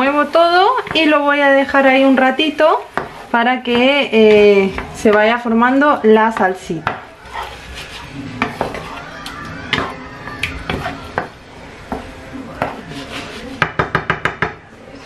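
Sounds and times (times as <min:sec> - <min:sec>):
wooden spatula scraping a pan: 0:00.0 - 0:14.0.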